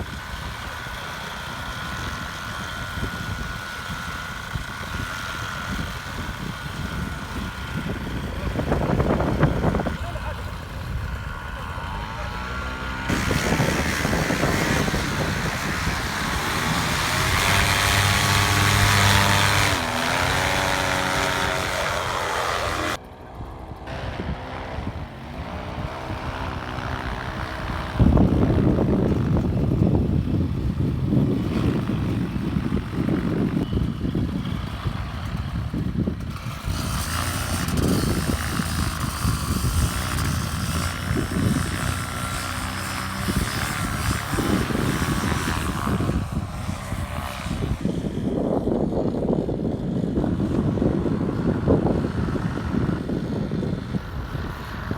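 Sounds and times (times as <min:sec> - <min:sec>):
paramotor engine and propeller: 0:00.0 - 0:54.9
wind buffeting microphone: 0:00.0 - 0:54.9.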